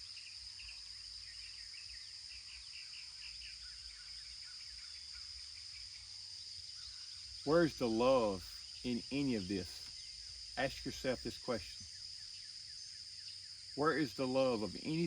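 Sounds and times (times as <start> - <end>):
insects droning: 0.0 - 15.0
short insect chirps: 0.0 - 15.0.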